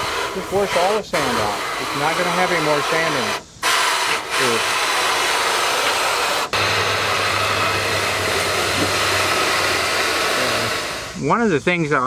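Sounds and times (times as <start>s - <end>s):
hose water spraying into gutter: 0.0s - 11.8s.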